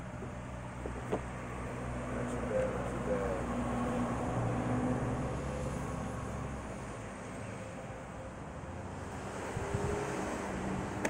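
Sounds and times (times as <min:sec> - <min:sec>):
passing traffic engine hum: 0:00.0 - 0:11.0.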